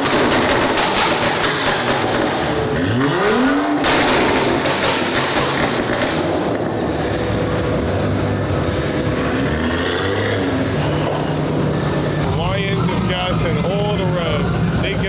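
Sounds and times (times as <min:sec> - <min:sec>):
car engine revving and running: 0:00.0 - 0:15.0.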